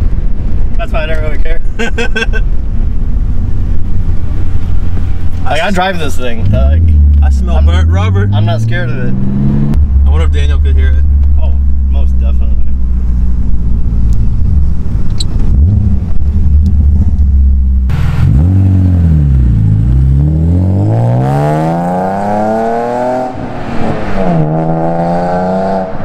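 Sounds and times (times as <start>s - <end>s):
car engine accelerating: 2.1s - 26.0s.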